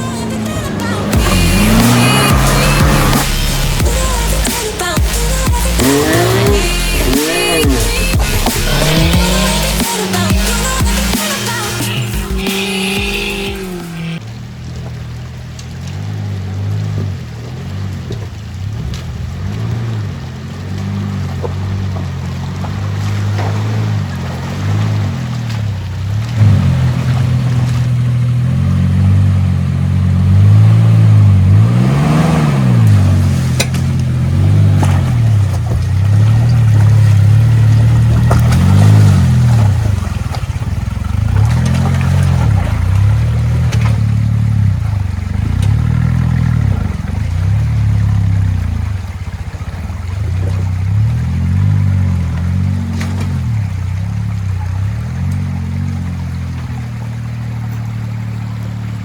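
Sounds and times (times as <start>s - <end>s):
engine revving under load: 0.0s - 14.3s, 15.8s - 56.6s.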